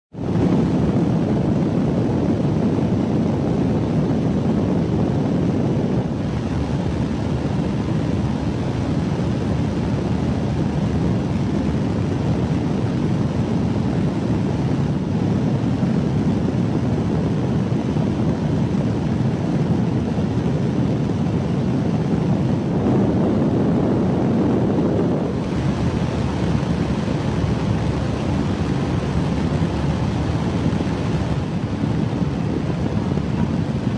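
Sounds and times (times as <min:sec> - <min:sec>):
storm wind roaring: 0:00.1 - 0:33.9.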